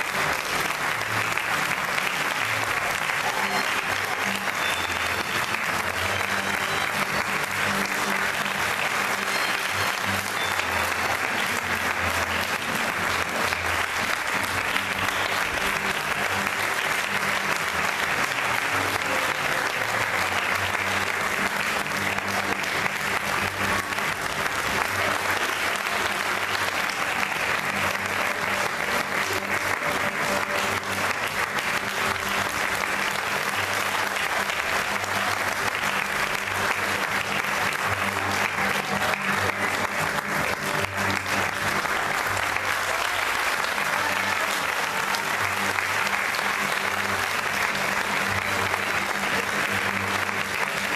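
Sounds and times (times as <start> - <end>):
audience applause: 0.0 - 50.9
music playing: 0.0 - 50.9.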